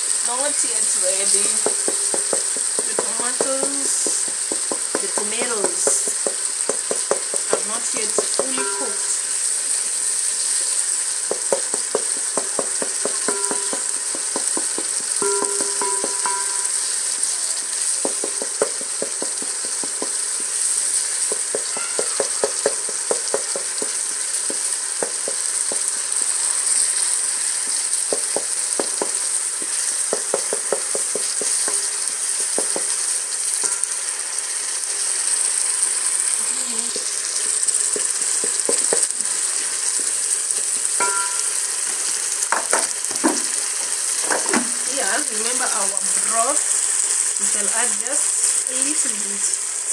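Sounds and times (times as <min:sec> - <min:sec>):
vegetables sizzling in pot: 0:00.0 - 0:49.9.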